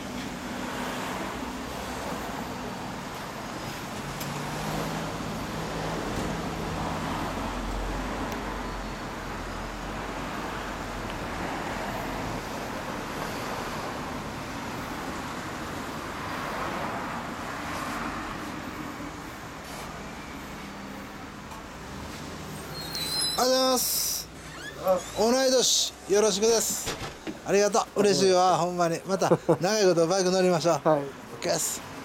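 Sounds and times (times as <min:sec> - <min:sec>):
cars passing by: 0:00.0 - 0:32.0.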